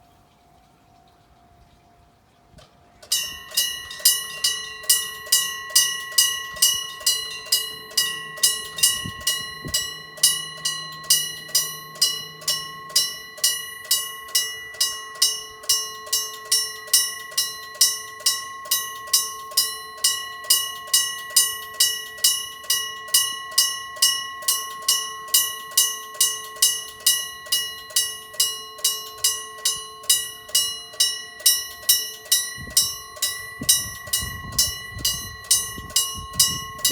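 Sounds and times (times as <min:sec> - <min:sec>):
level crossing warning bell clanging: 0:03.0 - 0:36.9.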